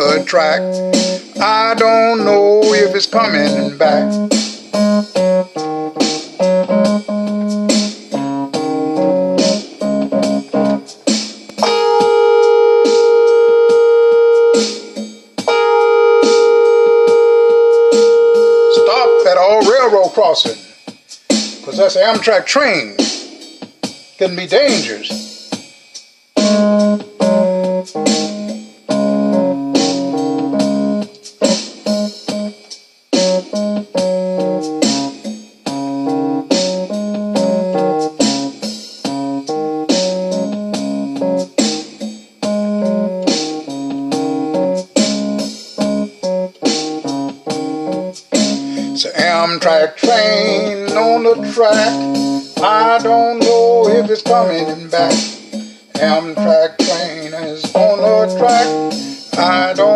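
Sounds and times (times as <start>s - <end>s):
keyboard music: 0.0s - 20.6s, 21.6s - 23.0s, 26.4s - 59.9s.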